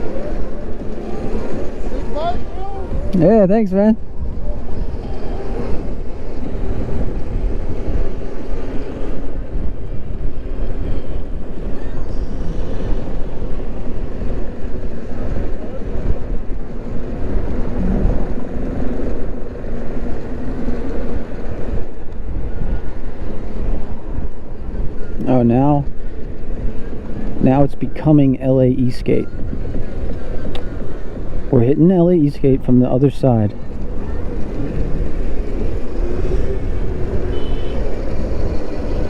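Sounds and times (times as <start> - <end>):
road noise: 0.0 - 39.0
wind buffeting microphone: 0.0 - 39.0.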